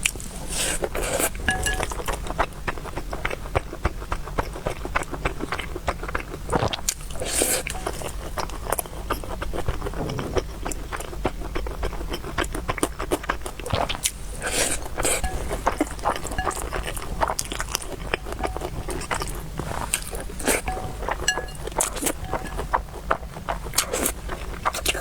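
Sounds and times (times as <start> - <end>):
person chewing noodles: 0.0 - 25.0.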